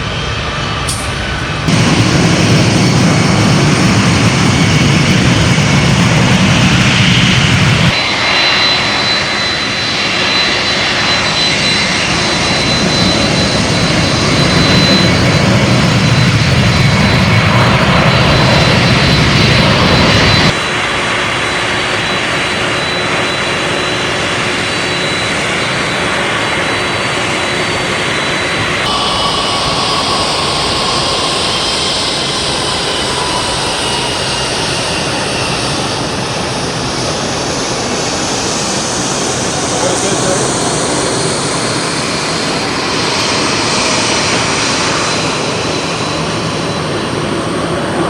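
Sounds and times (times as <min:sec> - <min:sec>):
jet engines roaring: 0:00.0 - 0:48.0
thin high whine: 0:00.9 - 0:48.0.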